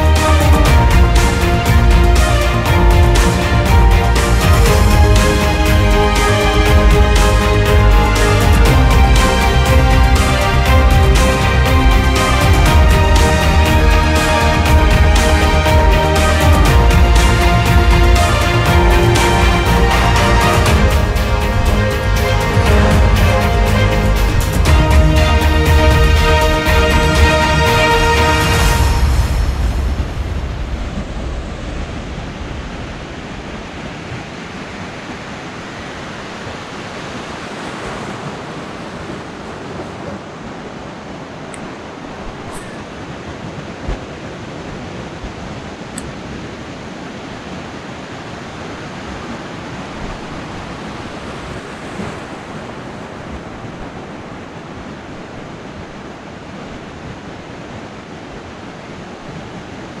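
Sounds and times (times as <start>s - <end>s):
ocean surf breaking: 0.0s - 60.0s.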